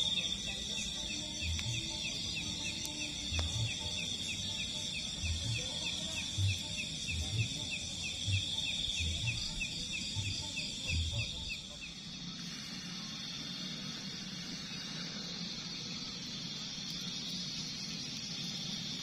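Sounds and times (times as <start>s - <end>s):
insect chirping: 0.0s - 19.0s
insects high-pitched drone: 0.0s - 19.0s.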